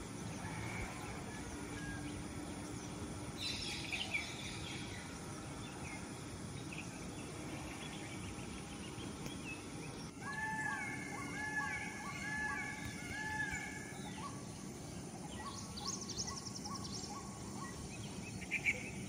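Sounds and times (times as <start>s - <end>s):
steady background hiss: 0.0s - 19.0s
small birds chirping: 2.1s - 19.0s.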